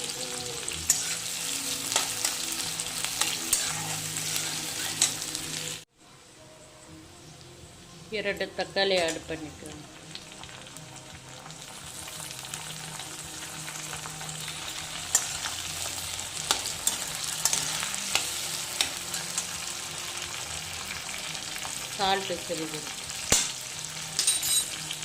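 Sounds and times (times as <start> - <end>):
onion and tomatoes sizzling in oil: 0.0 - 25.0.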